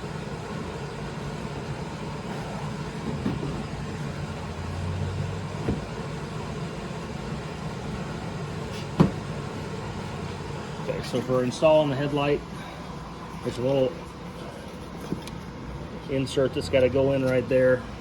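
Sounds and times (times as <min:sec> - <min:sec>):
space heater humming: 0:00.0 - 0:18.0.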